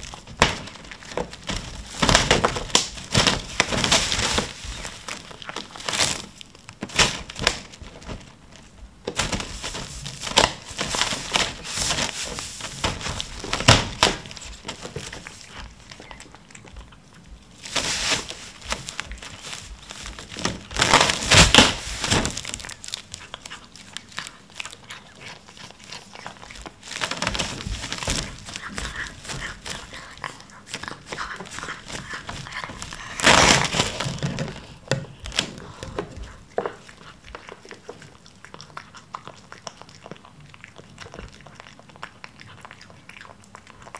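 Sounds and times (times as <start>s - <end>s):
cling film crinkling: 0.0s - 16.2s, 17.5s - 37.7s.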